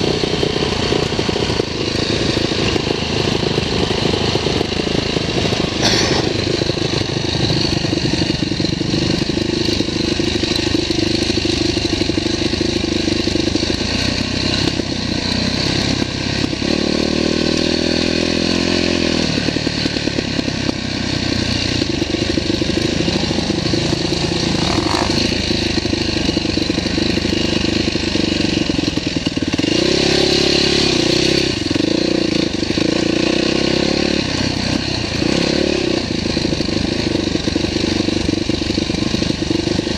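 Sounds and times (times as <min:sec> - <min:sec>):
higher steady engine note: 0:00.0 - 0:17.6, 0:18.5 - 0:39.9
dirt bike engine running: 0:00.0 - 0:39.9.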